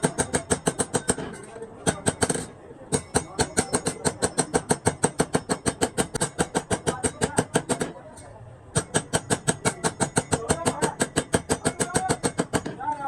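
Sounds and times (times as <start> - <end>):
hammer blows on metal: 0.0 - 8.0, 8.8 - 12.9.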